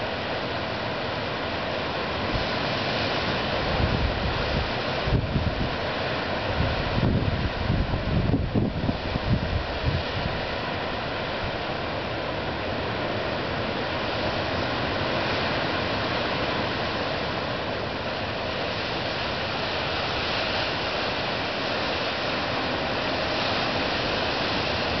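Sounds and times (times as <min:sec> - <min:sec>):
surf breaking on shore: 0:00.0 - 0:25.0.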